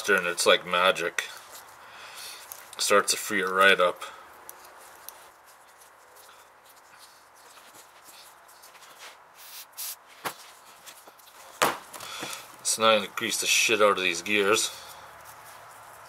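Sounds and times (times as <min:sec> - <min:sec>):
faint rustling of metal parts: 0:00.0 - 0:16.0.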